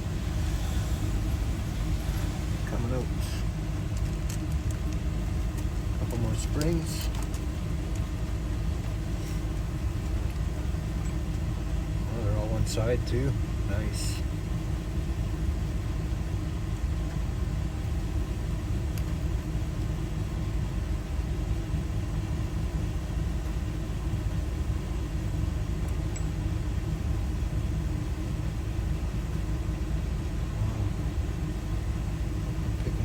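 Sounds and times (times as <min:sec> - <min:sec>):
constant hum: 0:00.0 - 0:33.0
low background rumble: 0:00.0 - 0:33.0.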